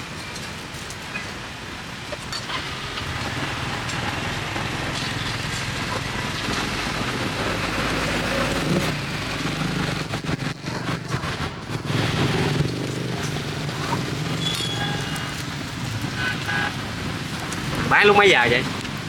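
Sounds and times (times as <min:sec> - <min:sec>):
motorbike engines running: 0:00.0 - 0:19.0
road noise hiss: 0:00.0 - 0:19.0.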